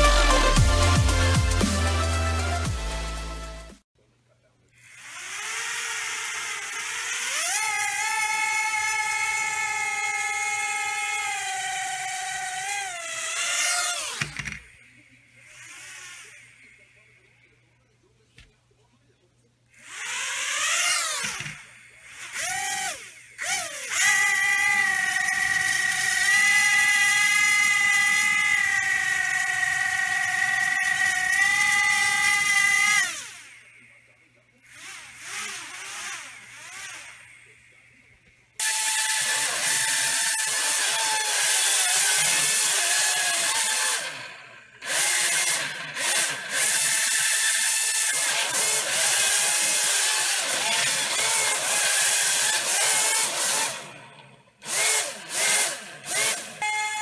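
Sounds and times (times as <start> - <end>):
toy quadcopter motors whining: 4.8 - 17.5, 19.7 - 57.0.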